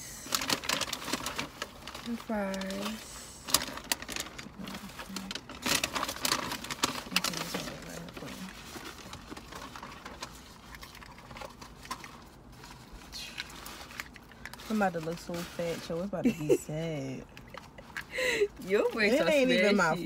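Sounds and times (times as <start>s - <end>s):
paper bags rustling: 0.0s - 20.0s.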